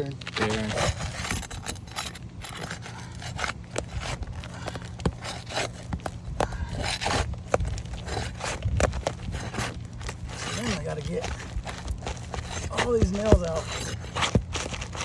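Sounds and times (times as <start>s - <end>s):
roof shingle scraping and crackling: 0.0s - 15.0s.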